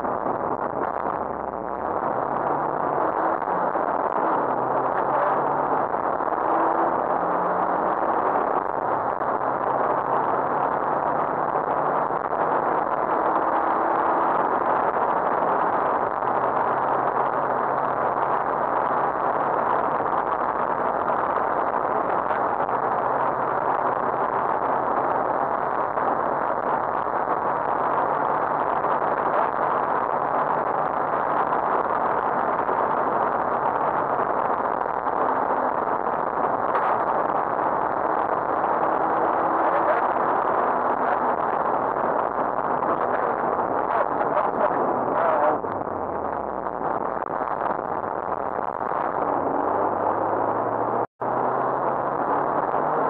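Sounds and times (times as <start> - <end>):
rally car running at speed: 0.0 - 53.0
tyre and wind noise: 0.0 - 53.0.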